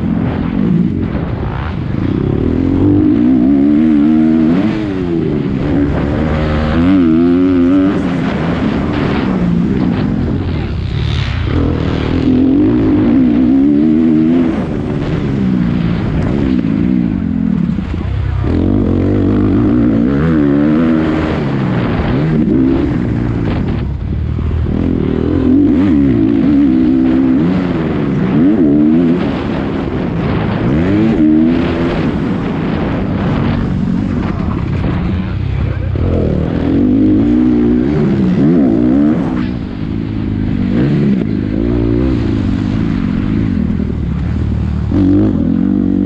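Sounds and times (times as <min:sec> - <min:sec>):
motocross bike engine revving: 0:00.0 - 0:46.0
wind rush: 0:00.0 - 0:46.0.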